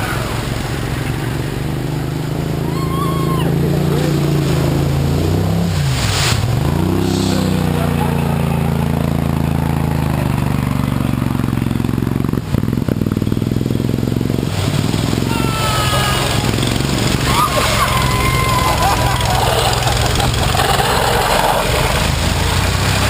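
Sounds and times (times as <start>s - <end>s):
buggy engine running hard: 0.0s - 23.0s.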